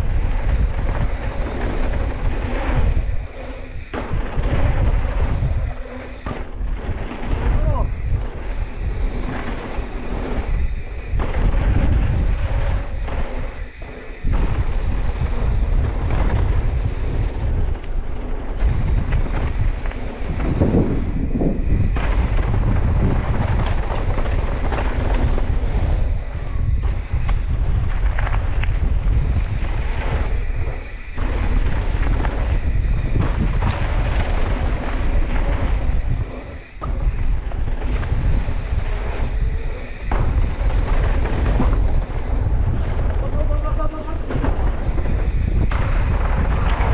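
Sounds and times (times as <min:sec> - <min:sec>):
bike tyre noise: 0:00.0 - 0:46.9
mountain bike rattling: 0:00.0 - 0:46.9
wind rumble on microphone: 0:00.0 - 0:46.9.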